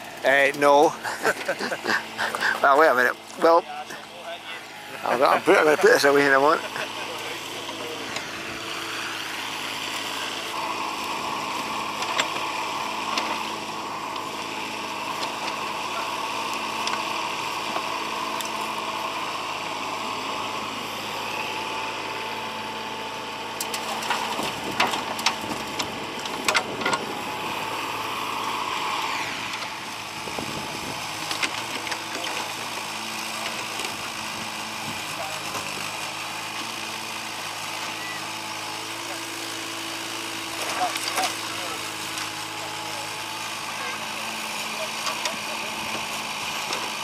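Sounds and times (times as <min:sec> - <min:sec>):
excavator engine running: 0:00.0 - 0:47.0.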